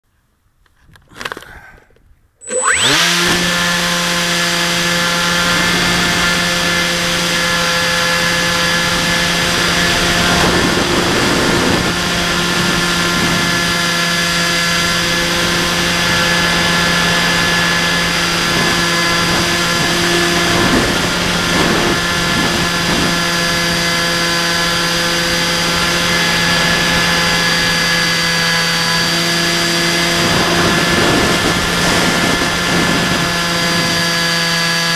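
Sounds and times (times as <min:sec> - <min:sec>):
model plane motor whine: 0:02.4 - 0:34.9.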